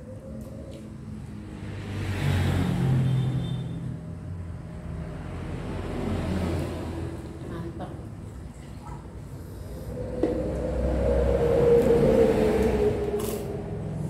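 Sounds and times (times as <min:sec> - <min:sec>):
motor vehicle passing by: 0:00.0 - 0:08.4, 0:09.0 - 0:14.0.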